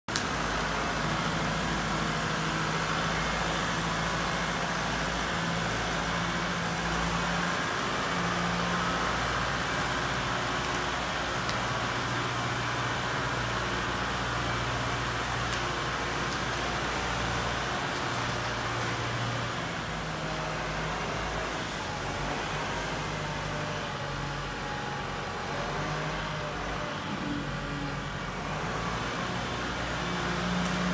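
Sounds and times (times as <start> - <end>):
loader pushing sand: 0.1 - 30.9
tractor engine under load: 0.1 - 30.9.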